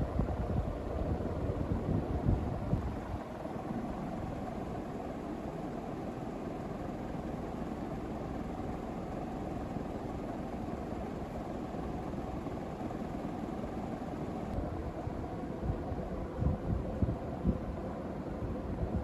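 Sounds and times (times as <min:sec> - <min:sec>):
ceiling fan running: 0:00.0 - 0:19.0.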